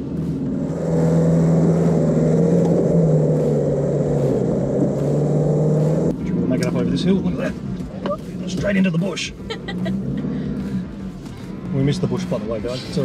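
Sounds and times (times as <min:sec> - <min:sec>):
diesel engine pulling under load: 0:00.0 - 0:13.0.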